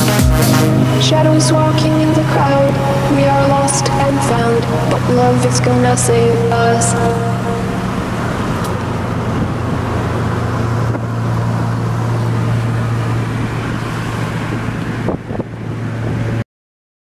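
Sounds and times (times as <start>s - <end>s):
car engine droning: 0.0s - 16.4s
road and wind noise: 0.0s - 16.4s.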